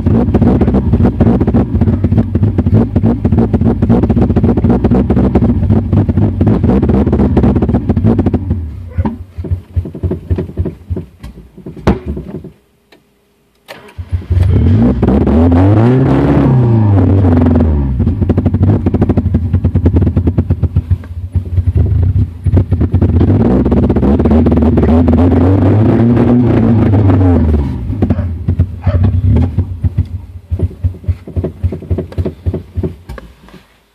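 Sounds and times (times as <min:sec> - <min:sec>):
car engine misfiring and stalling: 0:00.0 - 0:12.5, 0:13.7 - 0:33.6.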